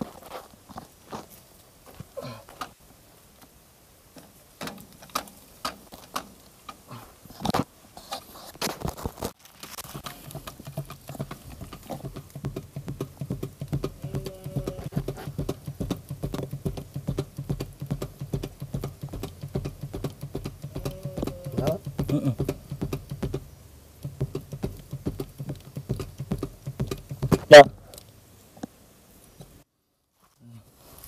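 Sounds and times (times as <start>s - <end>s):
rustling: 0.0s - 31.0s.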